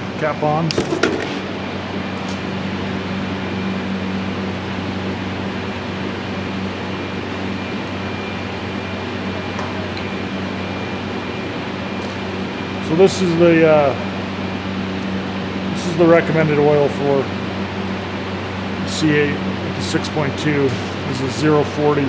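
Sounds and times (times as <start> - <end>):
fan humming: 0.0 - 22.0.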